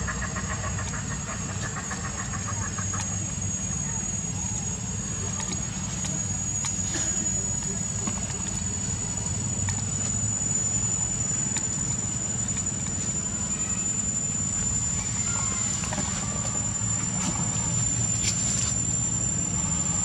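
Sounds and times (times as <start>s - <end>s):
high-pitched insect drone: 0.0s - 20.0s
low background rumble: 0.0s - 20.0s.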